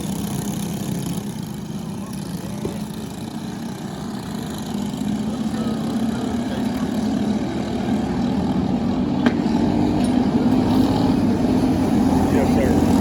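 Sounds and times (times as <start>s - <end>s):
kart engine running: 0.0s - 13.0s.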